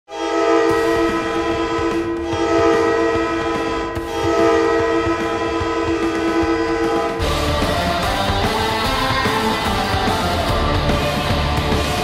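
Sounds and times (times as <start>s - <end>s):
arena air horn blast: 0.1s - 9.9s.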